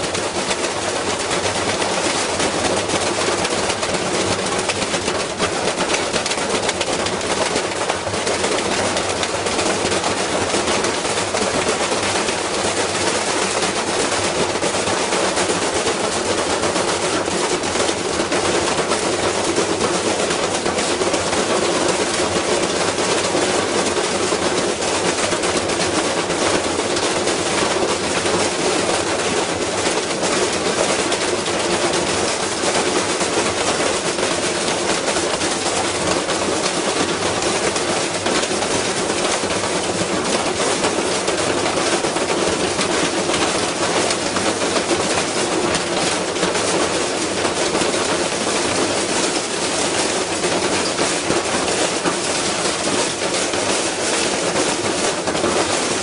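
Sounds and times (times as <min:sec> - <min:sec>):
washing machine clattering and banging: 0:00.0 - 0:56.0.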